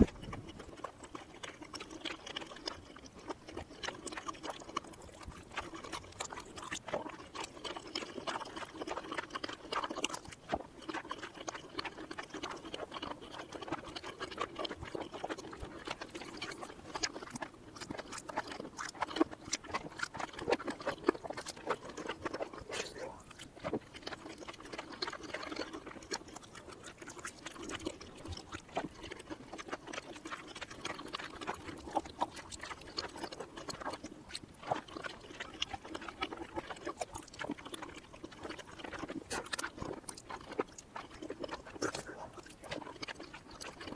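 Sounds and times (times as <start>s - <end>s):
reversed wet chewing sounds: 0.0s - 43.9s.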